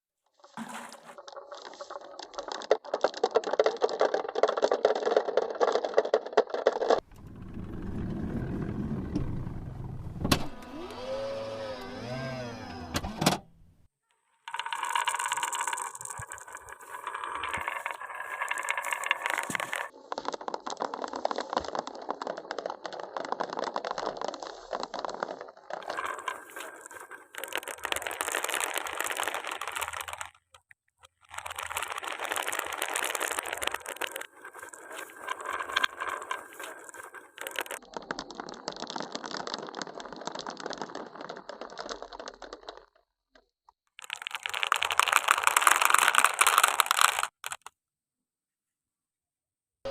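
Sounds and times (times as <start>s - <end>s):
marbles rattling on wooden run: 0.4s - 8.8s, 14.4s - 43.0s, 43.9s - 47.7s.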